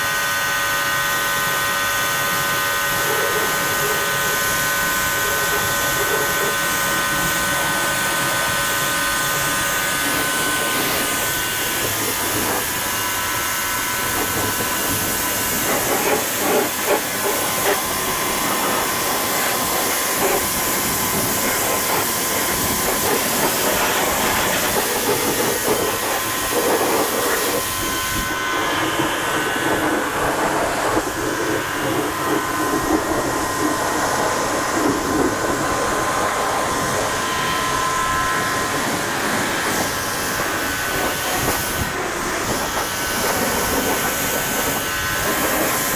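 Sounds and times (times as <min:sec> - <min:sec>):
pressure washer spraying water: 0:00.8 - 0:45.9.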